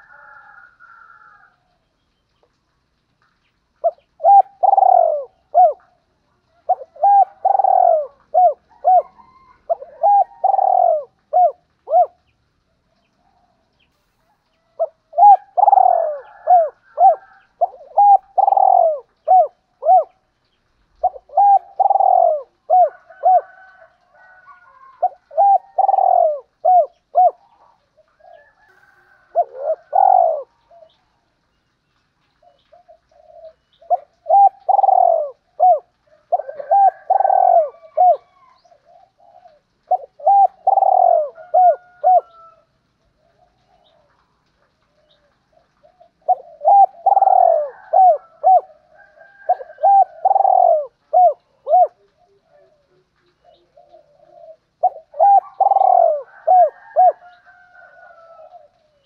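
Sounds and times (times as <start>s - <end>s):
dove cooing: 3.8s - 12.6s, 13.3s - 31.4s, 32.4s - 59.0s.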